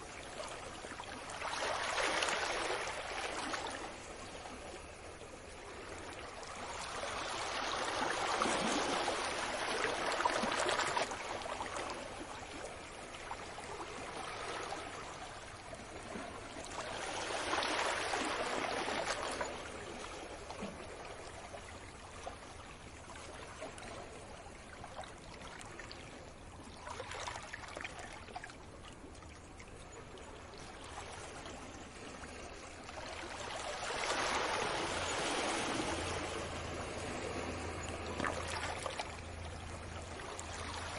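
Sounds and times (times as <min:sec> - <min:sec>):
sea waves washing on beach: 0:00.0 - 0:29.0, 0:29.9 - 0:40.9.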